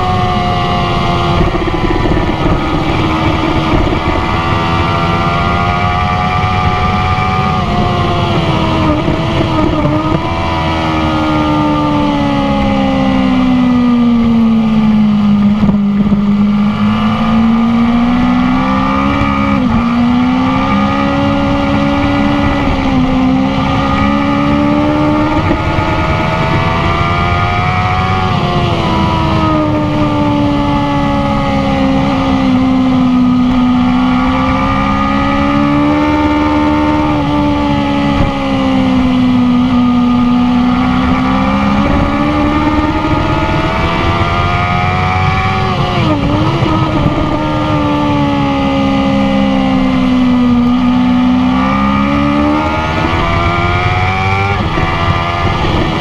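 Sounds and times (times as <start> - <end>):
motorcycle engine: 0.0 - 56.0
wind rush: 0.0 - 56.0.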